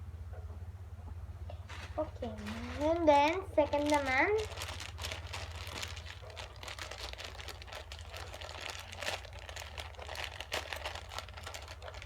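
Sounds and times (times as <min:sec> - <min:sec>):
low steady hum: 0:00.0 - 0:12.0
plastic packaging crinkling: 0:01.6 - 0:12.0.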